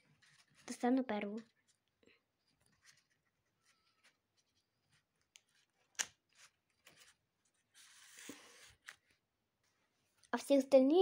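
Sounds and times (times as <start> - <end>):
paper rustling: 0.0 - 9.2.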